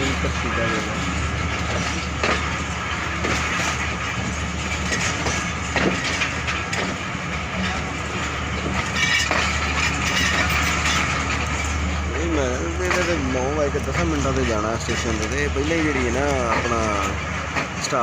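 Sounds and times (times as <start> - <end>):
train rumbling on track: 0.0 - 18.0
wheels clicking over rails: 0.0 - 18.0.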